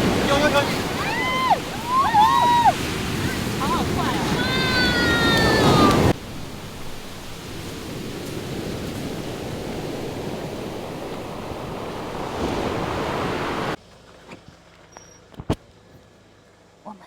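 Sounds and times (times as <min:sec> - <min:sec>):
ocean surf on beach: 0:00.0 - 0:13.8
wind on microphone: 0:00.0 - 0:13.8.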